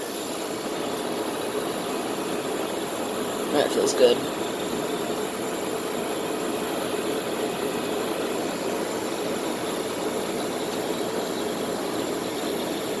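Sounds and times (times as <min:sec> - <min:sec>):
window air conditioner running: 0:00.0 - 0:13.0.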